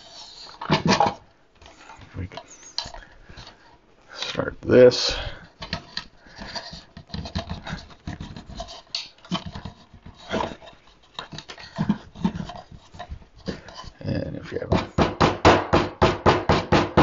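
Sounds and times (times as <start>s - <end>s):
hands handling wires and parts: 0.0s - 4.7s, 5.4s - 15.0s.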